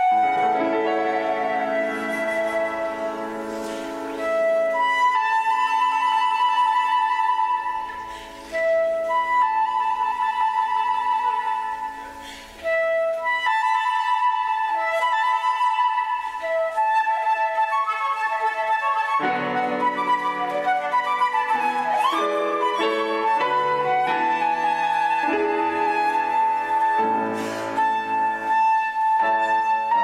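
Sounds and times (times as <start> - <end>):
flute solo: 0.0 - 30.0
soft piano accompaniment: 0.0 - 30.0.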